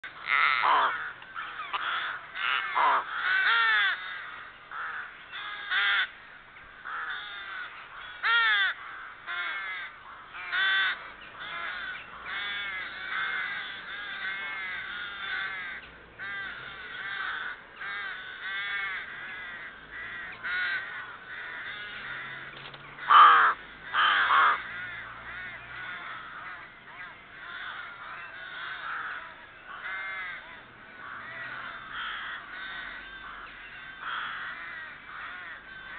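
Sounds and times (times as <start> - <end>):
rooks cawing: 0.0 - 35.9.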